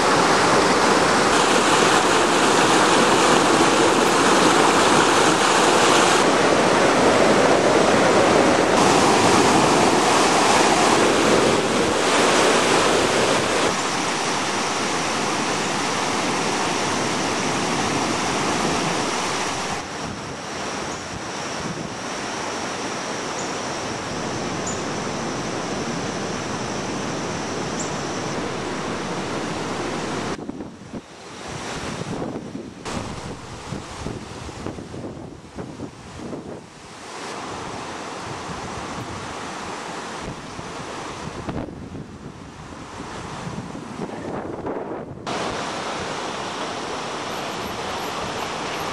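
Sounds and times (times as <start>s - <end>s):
floodwater roaring: 0.0s - 48.9s
wind on microphone: 0.0s - 48.9s.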